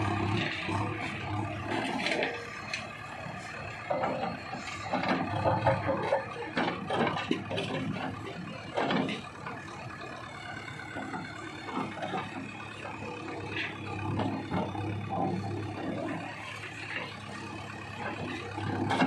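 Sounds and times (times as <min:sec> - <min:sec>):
backhoe engine under load: 0:00.0 - 0:19.0.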